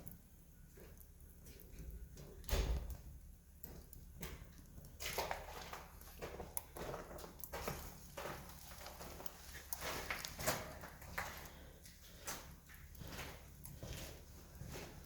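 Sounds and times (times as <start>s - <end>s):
campfire crackling and popping: 0.9s - 13.8s.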